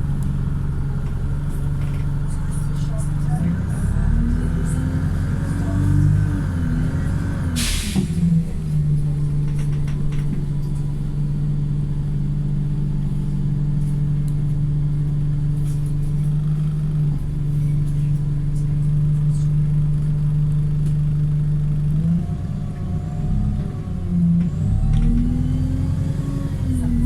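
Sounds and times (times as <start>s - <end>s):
bus engine droning: 0.0s - 27.0s.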